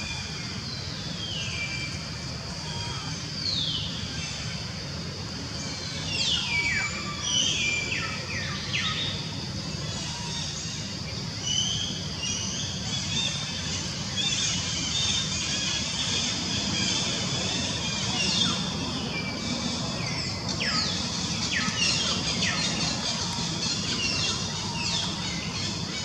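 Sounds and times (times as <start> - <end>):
outdoor background hiss and rumble: 0.0 - 26.0.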